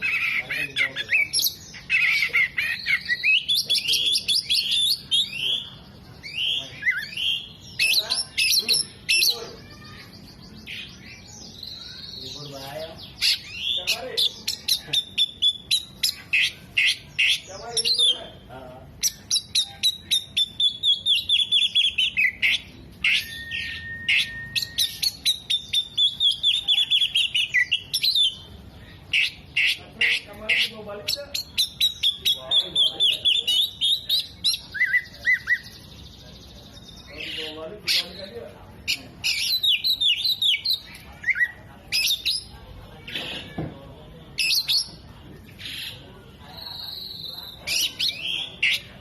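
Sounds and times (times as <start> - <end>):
magpie-robin singing: 0.0 - 43.7, 44.3 - 49.0.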